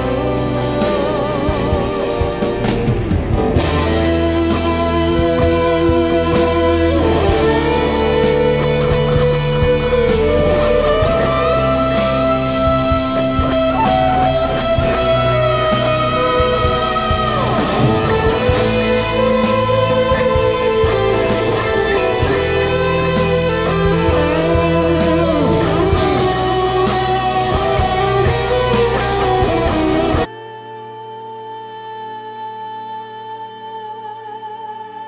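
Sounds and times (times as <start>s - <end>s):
live rock band playing: 0.0s - 30.3s
electric guitar solo: 0.0s - 35.0s.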